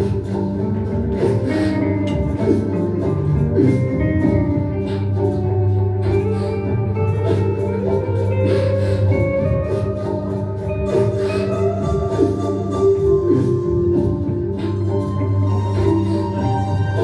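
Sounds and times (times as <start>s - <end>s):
low drone with held tones: 0.0s - 17.0s.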